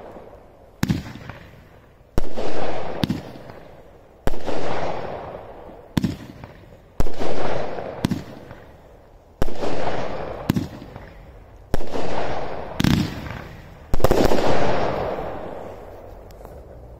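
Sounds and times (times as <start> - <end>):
fireworks bangs with echo: 0.0 - 15.9.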